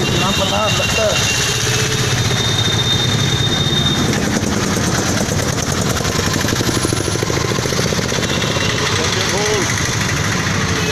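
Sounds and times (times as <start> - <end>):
vehicle engine idling: 0.0 - 10.9.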